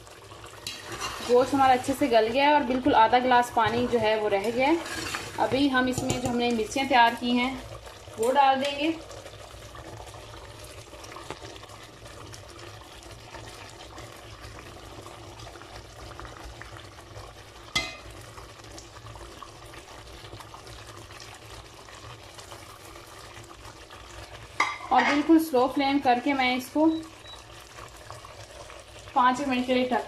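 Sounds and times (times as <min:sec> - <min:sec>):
curry bubbling in pot: 0:00.0 - 0:30.0.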